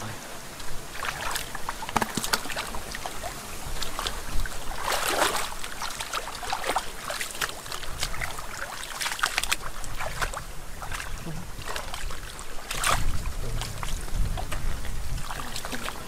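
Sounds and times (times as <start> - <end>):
muddy water splashing: 0.0 - 16.0
wet mud squelching: 0.0 - 16.0.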